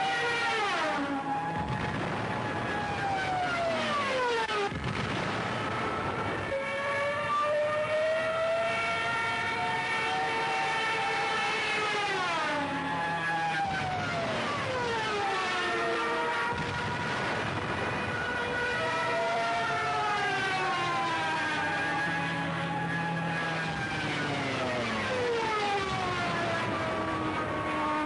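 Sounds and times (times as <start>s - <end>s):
aircraft engine noise: 0.0s - 28.0s
dive siren wailing: 0.0s - 28.0s.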